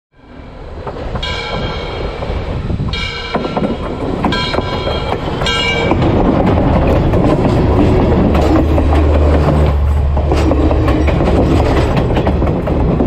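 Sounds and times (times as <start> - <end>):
rail clacks: 0.2 - 13.0
train rumble: 0.2 - 13.0.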